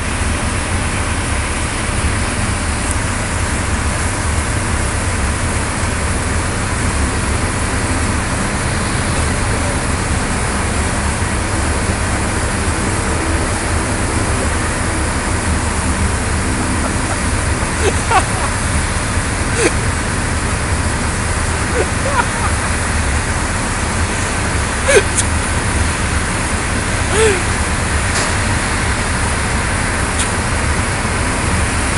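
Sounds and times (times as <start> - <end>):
airport ramp machinery droning: 0.0 - 31.9.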